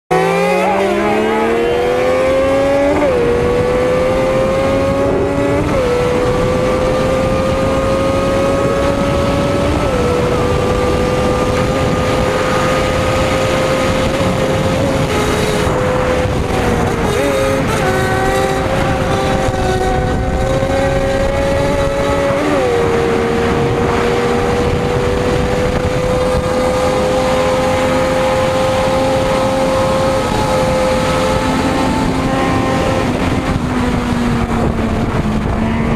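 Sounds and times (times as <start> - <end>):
motorcycle engine revving: 0.1 - 35.9
rush of noise: 0.1 - 35.9.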